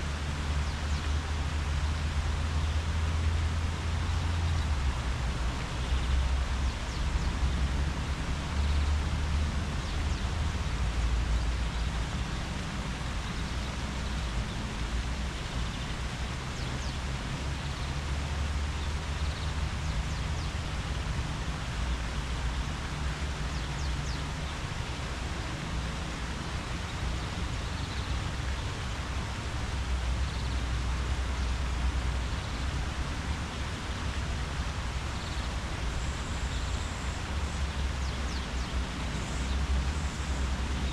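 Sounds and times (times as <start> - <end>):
leaves rustling in wind: 0.0 - 40.9.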